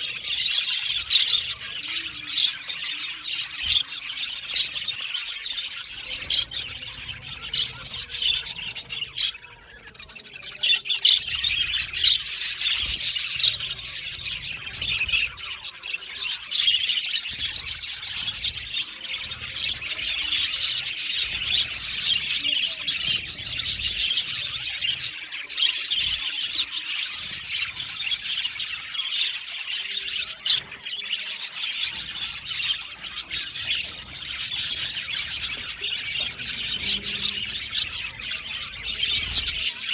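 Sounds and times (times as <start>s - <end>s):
flock of budgerigars chirping: 0.0s - 39.9s.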